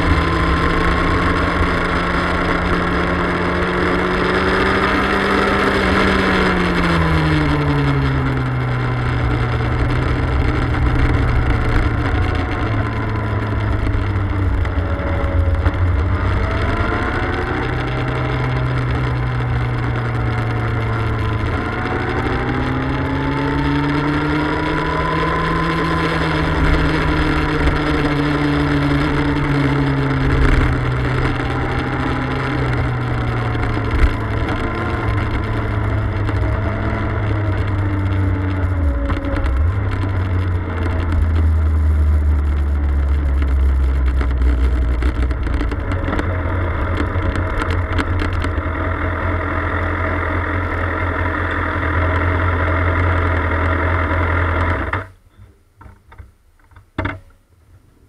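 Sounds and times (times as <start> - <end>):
motorcycle engine: 0.0 - 57.4.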